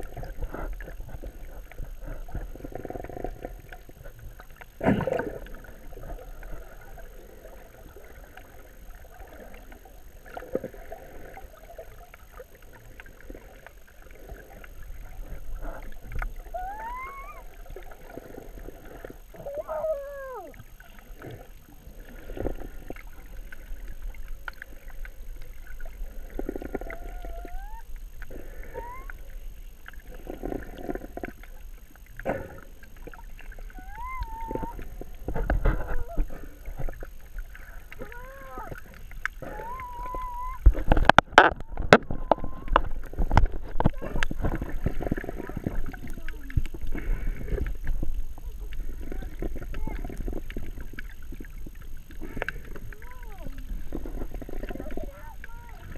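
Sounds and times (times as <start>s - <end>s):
underwater sloshing and gurgling: 0.0s - 55.9s.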